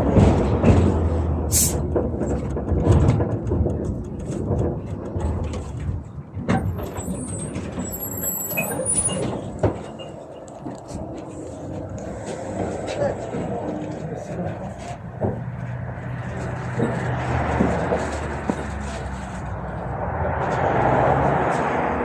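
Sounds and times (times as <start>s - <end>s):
tram equipment hum: 0.0s - 22.0s.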